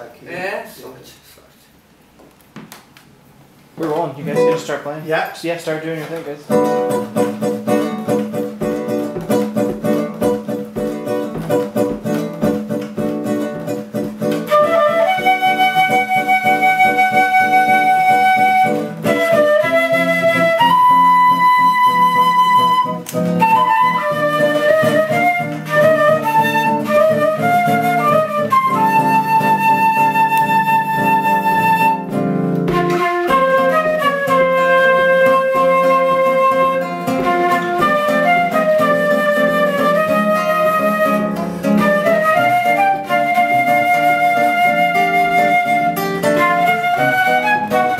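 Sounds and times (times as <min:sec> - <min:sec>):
classical guitar accompaniment: 0:04.2 - 0:04.8, 0:06.0 - 0:47.9
flute melody: 0:06.5 - 0:47.9.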